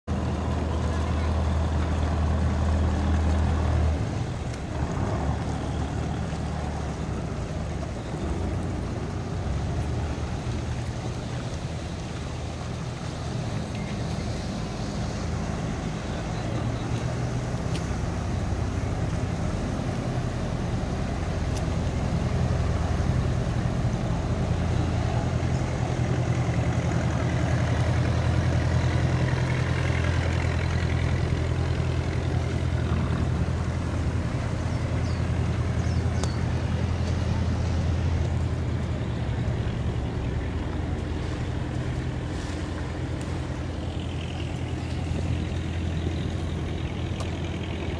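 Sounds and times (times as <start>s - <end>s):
boat engines chugging: 0.1s - 47.9s.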